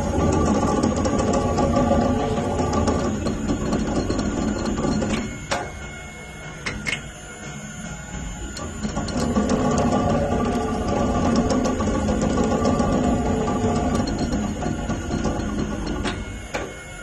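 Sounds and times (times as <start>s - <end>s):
winding machine humming: 0.0s - 17.0s.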